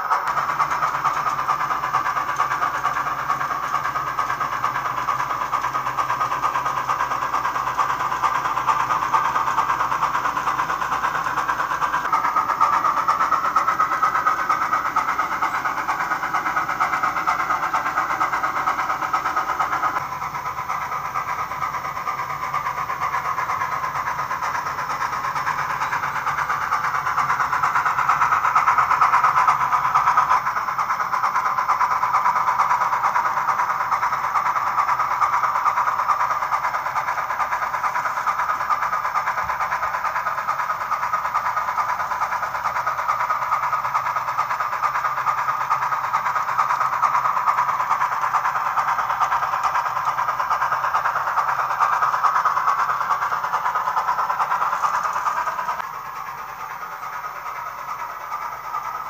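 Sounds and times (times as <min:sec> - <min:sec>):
model steam locomotive sound: 0:00.0 - 0:59.0.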